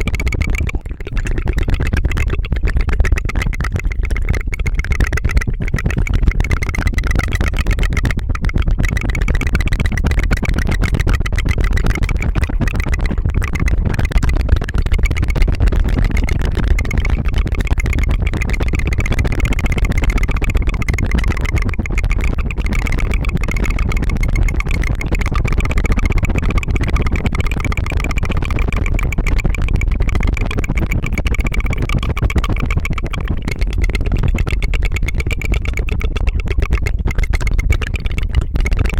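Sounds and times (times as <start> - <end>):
tongue fluttering rattle: 0.0 - 38.9.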